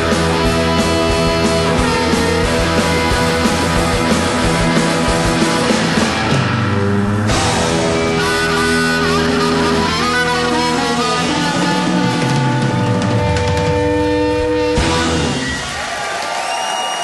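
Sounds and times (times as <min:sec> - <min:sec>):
electric guitar bending notes: 0:00.0 - 0:15.8
rock band playing: 0:00.0 - 0:17.0.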